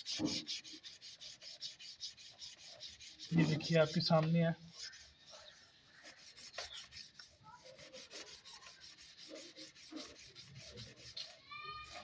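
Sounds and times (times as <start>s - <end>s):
brush scrubbing metal rim: 0.0s - 12.0s.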